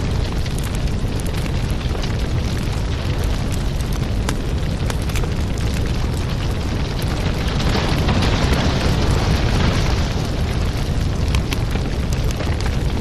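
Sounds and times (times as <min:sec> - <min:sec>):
flames rushing: 0:00.0 - 0:13.0
logs crackling and popping: 0:00.0 - 0:13.0.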